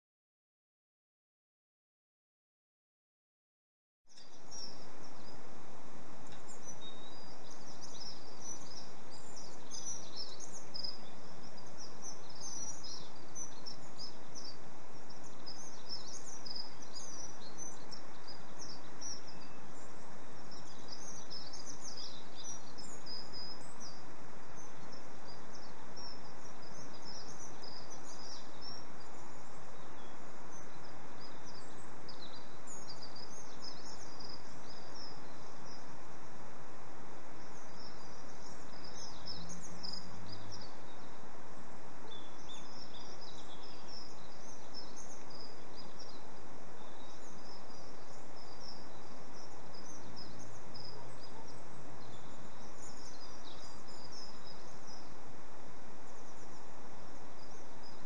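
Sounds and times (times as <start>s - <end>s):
small birds chirping: 4.1s - 58.0s
steady background hiss: 4.1s - 58.0s.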